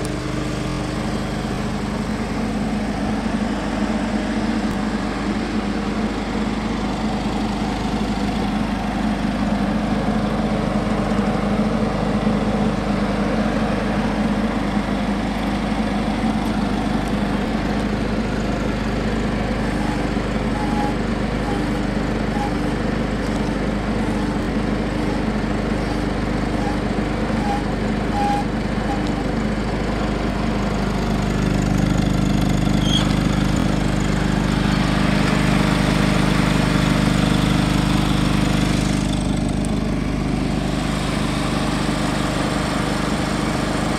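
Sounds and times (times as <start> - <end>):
garden tractor engine running: 0.0 - 43.9.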